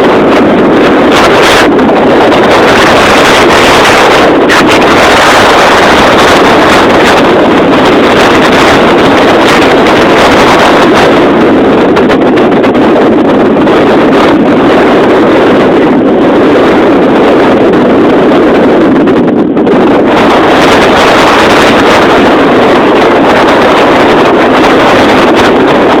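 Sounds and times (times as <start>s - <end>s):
wind blasting microphone: 0.0s - 26.0s.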